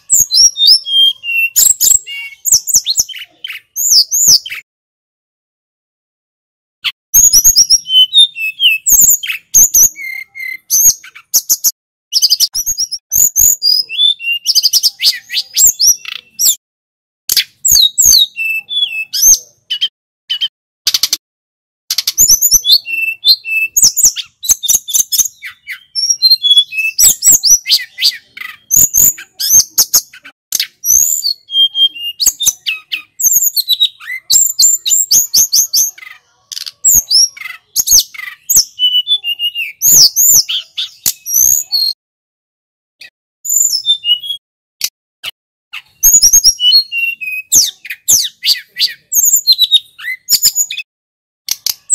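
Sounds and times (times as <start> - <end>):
bird singing high whistled notes: 0.0 - 4.7, 7.2 - 16.6, 17.4 - 20.5, 22.0 - 36.0, 36.7 - 42.0, 43.5 - 44.4, 45.8 - 50.9.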